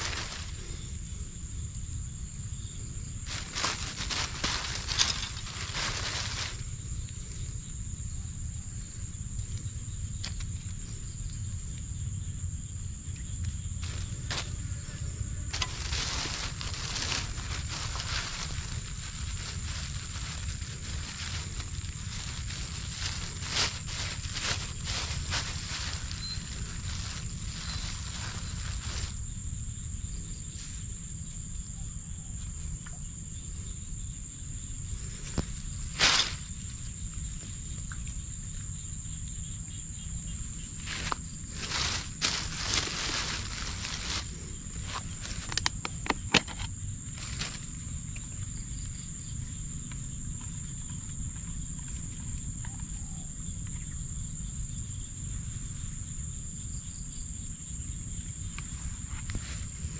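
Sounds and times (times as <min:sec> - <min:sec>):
insects trilling: 0:00.0 - 0:59.9
rustle: 0:00.0 - 0:59.9.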